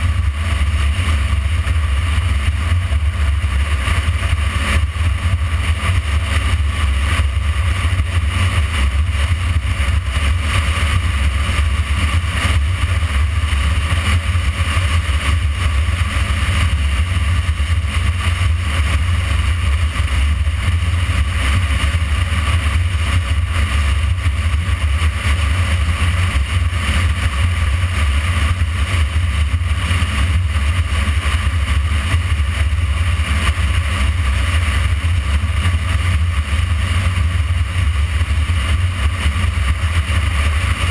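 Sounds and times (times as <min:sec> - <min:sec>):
wind rumble on microphone: 0:00.0 - 0:40.9.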